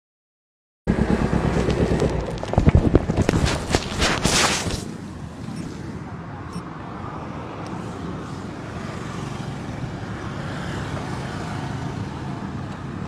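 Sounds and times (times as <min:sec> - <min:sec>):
motor vehicle rumble: 0:00.9 - 0:13.0
road noise: 0:00.9 - 0:13.0.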